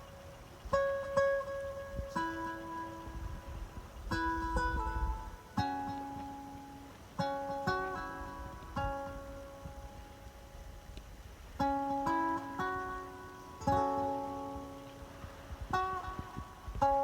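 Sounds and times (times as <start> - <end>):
plucked acoustic string chords: 0.0 - 17.0.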